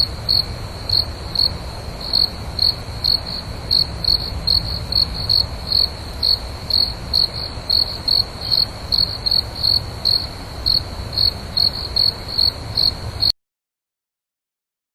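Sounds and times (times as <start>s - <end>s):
crickets chirping: 0.0s - 13.3s.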